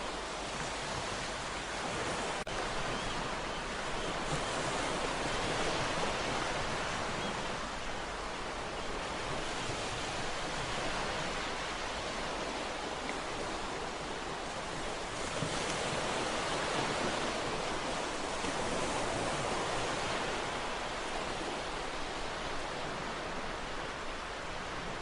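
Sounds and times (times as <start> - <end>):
waves breaking: 0.0 - 25.0.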